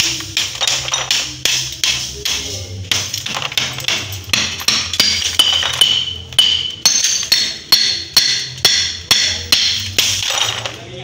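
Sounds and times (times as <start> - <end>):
hammer striking glass: 0.0 - 10.7.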